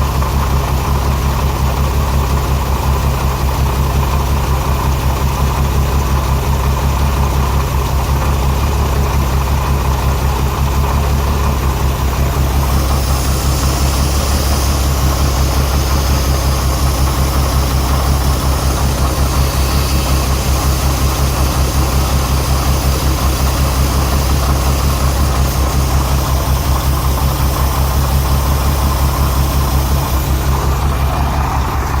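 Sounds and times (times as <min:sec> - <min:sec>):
engine idling roughly: 0:00.0 - 0:32.0.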